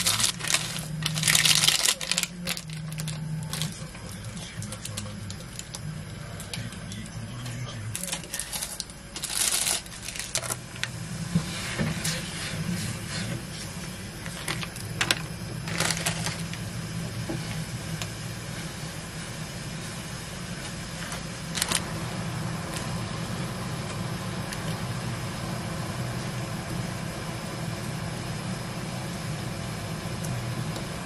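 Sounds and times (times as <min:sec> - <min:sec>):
broth boiling in a pot: 0:00.0 - 0:31.0
steady low hum: 0:00.0 - 0:31.0.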